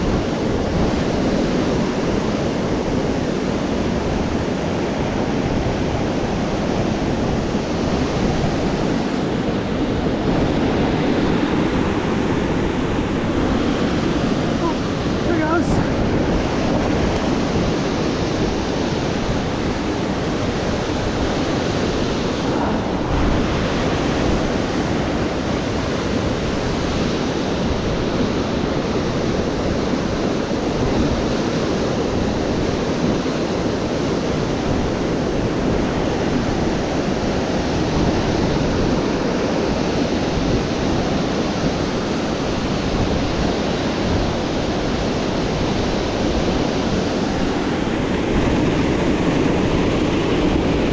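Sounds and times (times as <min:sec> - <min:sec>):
river water rushing: 0:00.0 - 0:50.9.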